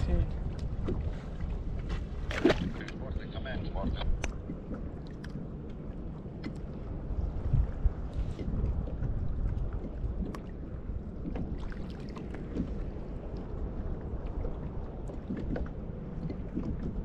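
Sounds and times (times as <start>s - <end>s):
water lapping at hull: 0.0s - 17.0s
wind rumbling on microphone: 0.0s - 17.0s.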